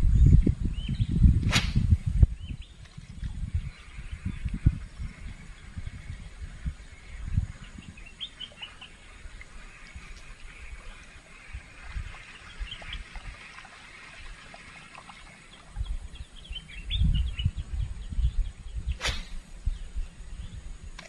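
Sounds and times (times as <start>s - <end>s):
birds chirping: 3.5s - 20.6s.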